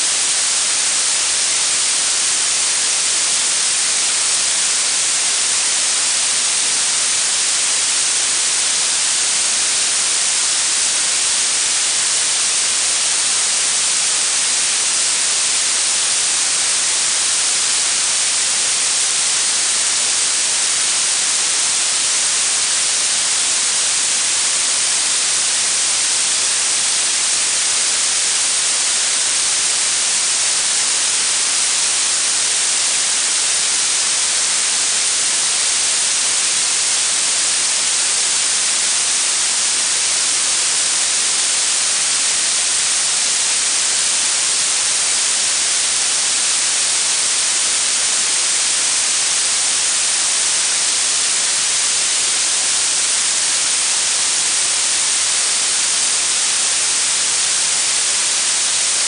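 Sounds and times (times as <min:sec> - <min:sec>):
synthetic blue noise hiss: 0:00.0 - 0:53.9.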